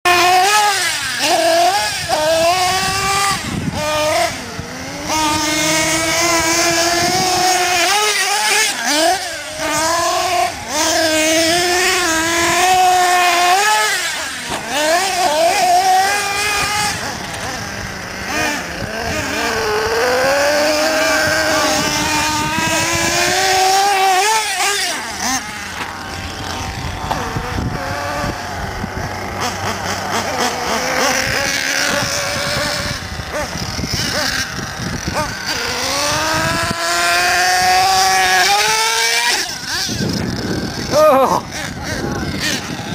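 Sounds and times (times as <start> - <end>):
rc truck engines revving: 0.0 - 42.9.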